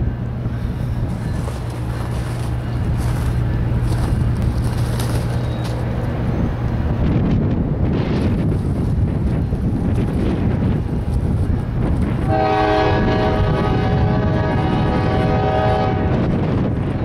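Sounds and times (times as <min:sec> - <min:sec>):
distant diesel locomotive drone: 0:00.0 - 0:17.0
wind buffeting microphone: 0:00.0 - 0:17.0.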